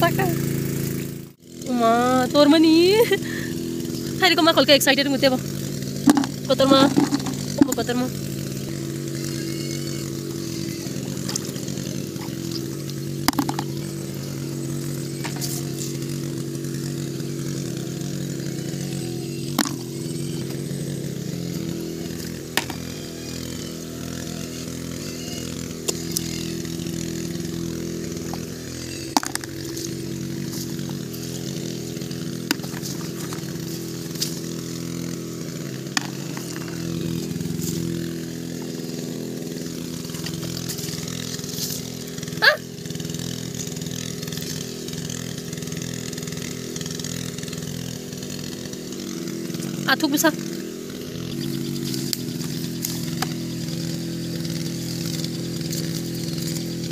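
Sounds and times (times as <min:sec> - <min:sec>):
small engine droning: 0:00.0 - 0:56.9.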